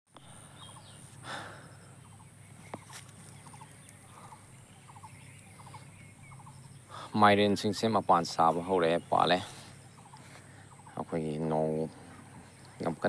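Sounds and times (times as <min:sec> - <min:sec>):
high insect hum: 0:00.1 - 0:13.0
small animals calling: 0:00.1 - 0:13.0.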